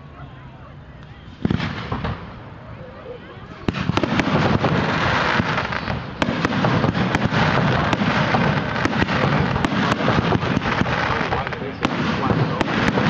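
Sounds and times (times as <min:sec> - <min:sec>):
fireworks crackling: 0:00.9 - 0:02.7, 0:03.4 - 0:13.0
fireworks bangs: 0:01.2 - 0:02.6, 0:03.4 - 0:13.0.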